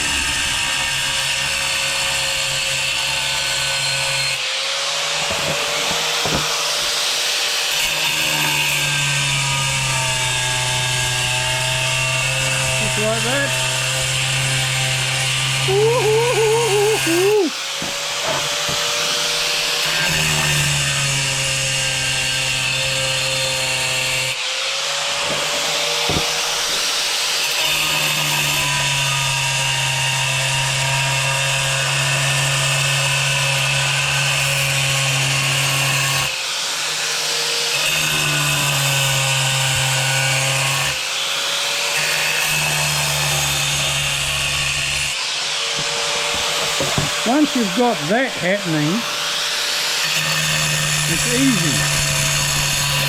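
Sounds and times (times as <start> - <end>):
angle grinder grinding tile: 0.0 - 53.0.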